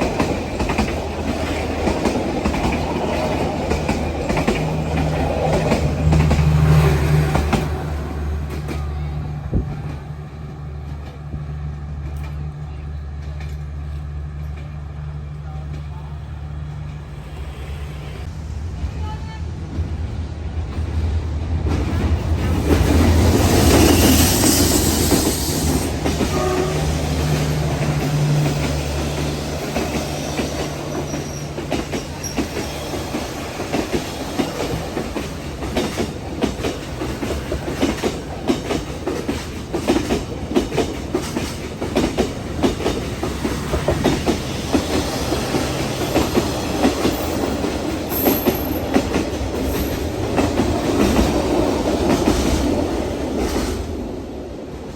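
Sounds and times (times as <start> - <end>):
wheels clacking over rail joints: 0.0 - 16.1, 21.6 - 54.1.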